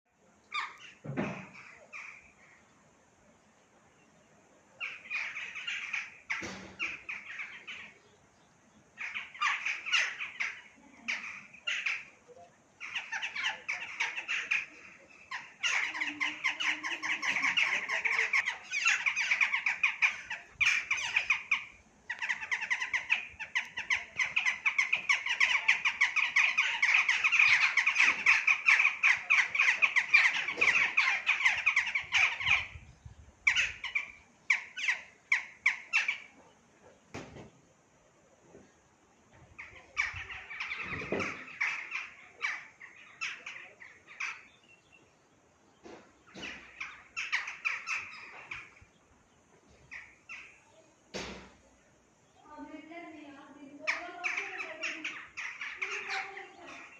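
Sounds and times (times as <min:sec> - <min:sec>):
birds chattering: 0:00.3 - 0:56.9.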